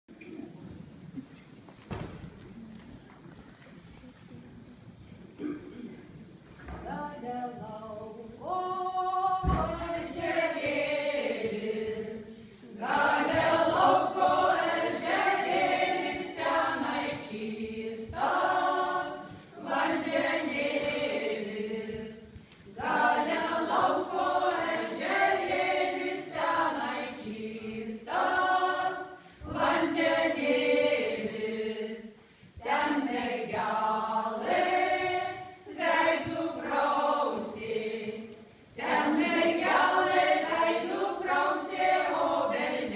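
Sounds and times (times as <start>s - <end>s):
women's choir singing: 6.6s - 42.9s.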